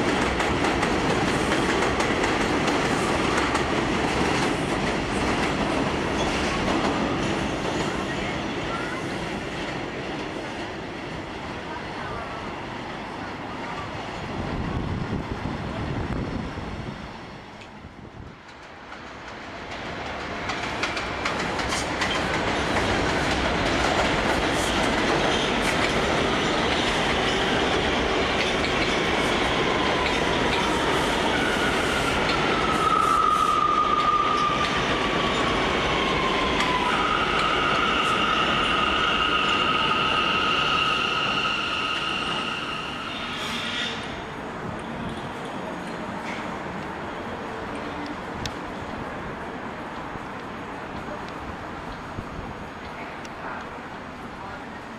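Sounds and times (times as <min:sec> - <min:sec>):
subway train running on tracks: 0:00.0 - 0:54.9.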